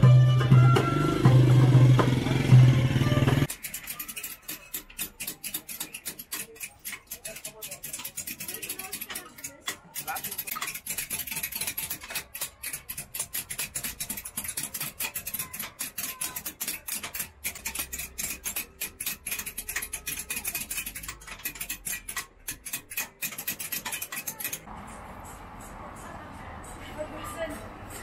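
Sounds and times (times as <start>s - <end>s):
hammers tapping metal chisels: 0.0s - 24.7s.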